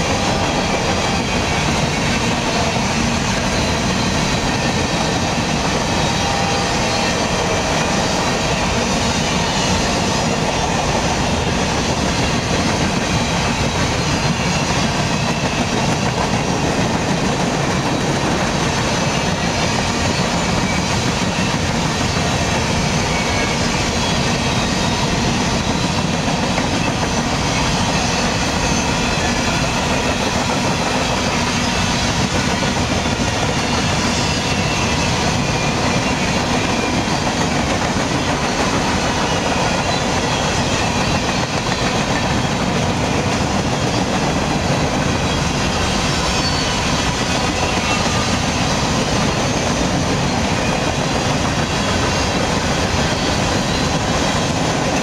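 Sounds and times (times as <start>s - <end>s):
steel wheels running on rails: 0.0s - 55.0s.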